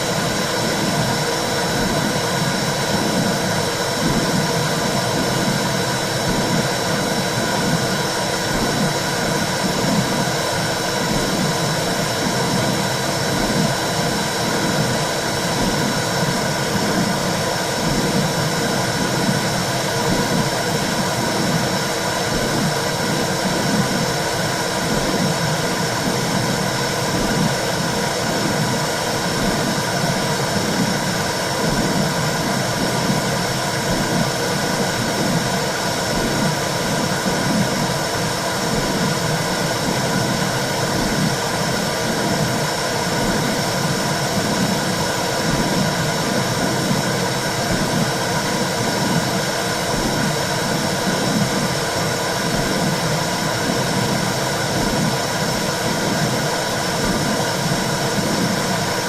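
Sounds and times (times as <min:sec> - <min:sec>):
low rhythmic whooshing pulse: 0:00.0 - 0:59.0.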